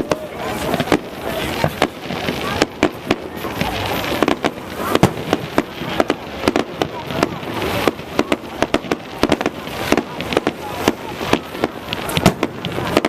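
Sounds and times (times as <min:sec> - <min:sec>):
fireworks banging and crackling: 0:00.0 - 0:13.0
murmur of voices: 0:00.0 - 0:13.0.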